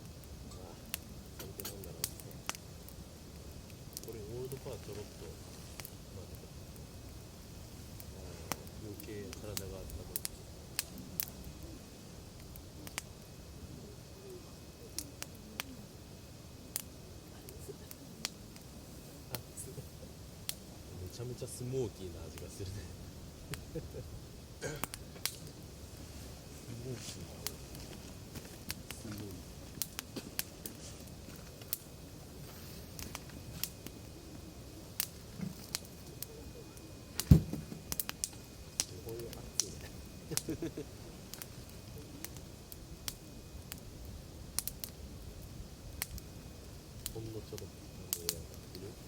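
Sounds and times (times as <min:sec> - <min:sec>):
burning logs popping: 0:00.0 - 0:49.0
campfire crackling: 0:00.0 - 0:49.0.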